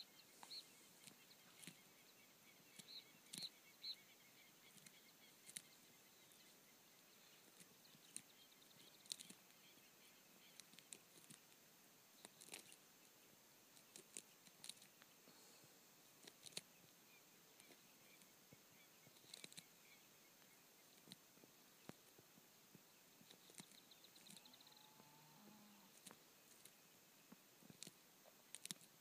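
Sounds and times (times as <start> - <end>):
faint ticks and rustles: 0.0 - 29.0.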